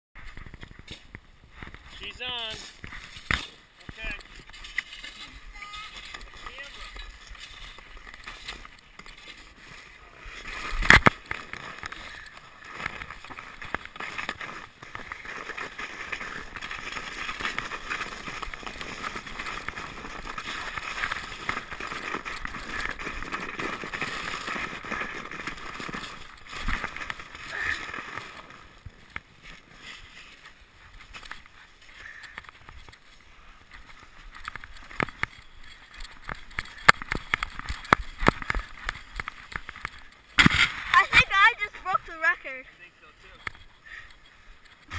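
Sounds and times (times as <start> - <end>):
sled bumps and knocks: 0.2 - 42.2
sled scraping over snow: 0.2 - 44.9.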